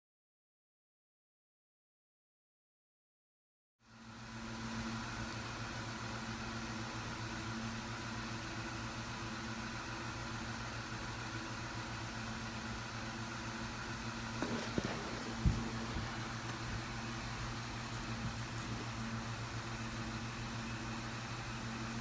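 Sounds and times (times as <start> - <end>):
mechanical hum with tones: 3.8 - 22.0.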